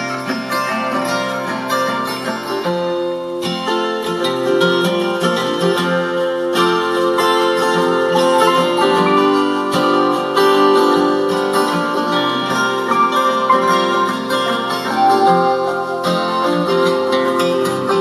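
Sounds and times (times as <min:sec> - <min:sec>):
plucked acoustic guitar: 0:00.0 - 0:18.0.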